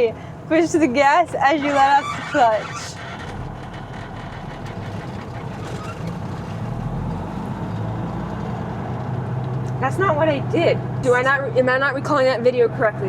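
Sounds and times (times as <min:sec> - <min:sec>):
truck diesel engine under load: 0:00.0 - 0:13.0.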